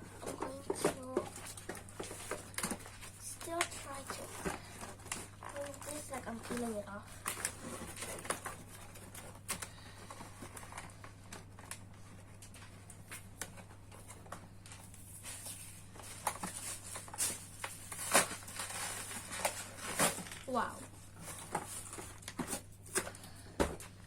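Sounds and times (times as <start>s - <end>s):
plastic packaging crinkling: 0.2s - 23.2s.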